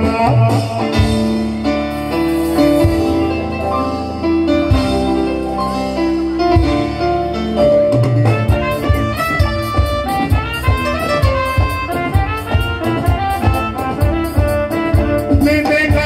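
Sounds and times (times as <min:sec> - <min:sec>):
bass guitar: 0:00.0 - 0:16.0
drum kit: 0:00.0 - 0:16.0
keyboard: 0:00.0 - 0:16.0
violin melody: 0:01.8 - 0:15.4.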